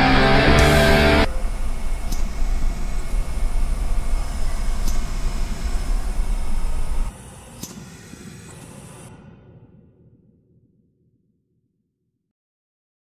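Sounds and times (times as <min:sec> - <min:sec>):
low rumbling noise: 0:00.0 - 0:10.5.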